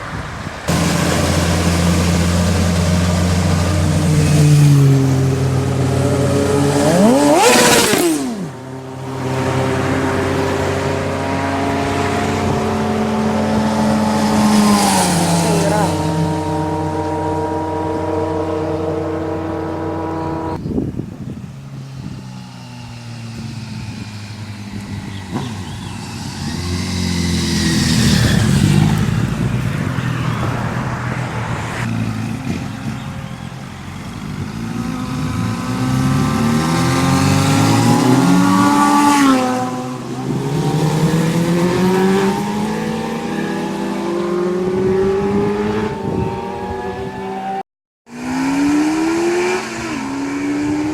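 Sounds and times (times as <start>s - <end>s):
sport motorcycle revving past: 0.7s - 20.6s, 21.7s - 50.9s.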